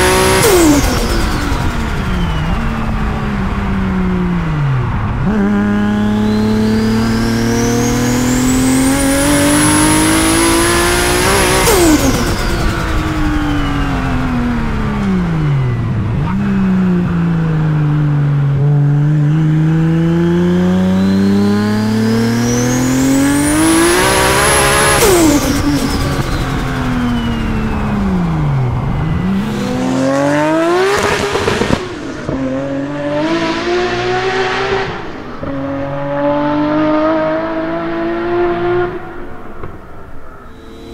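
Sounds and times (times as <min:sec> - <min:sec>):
car engine revving hard: 0:00.0 - 0:02.4, 0:05.2 - 0:14.9, 0:18.5 - 0:39.2.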